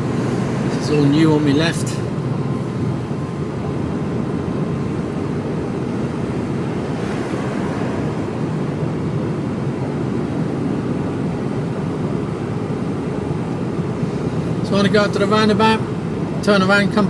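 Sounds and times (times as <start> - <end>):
lorry diesel engine and road noise: 0.0 - 17.0.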